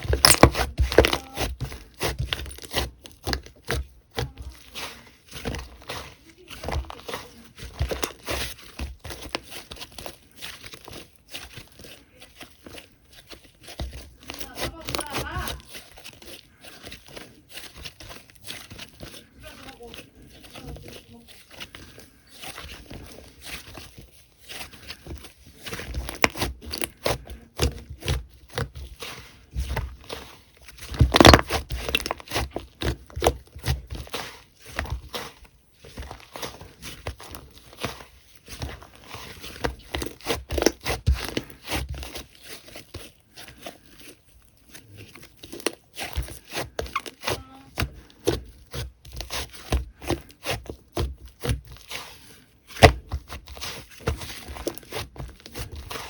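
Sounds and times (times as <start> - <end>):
slime squished by hand: 0.0 - 56.0.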